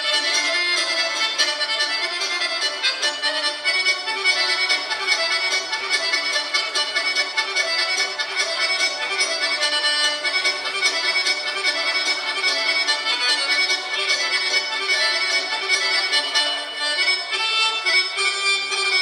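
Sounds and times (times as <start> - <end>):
accordion folk dance tune: 0.0 - 19.0.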